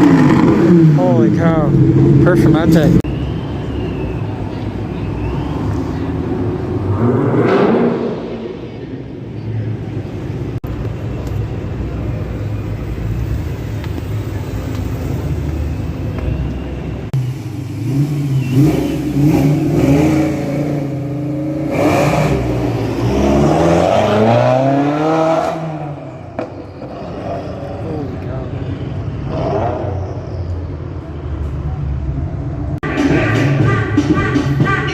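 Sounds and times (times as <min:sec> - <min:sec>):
car engines revving and accelerating: 0:00.0 - 0:33.6.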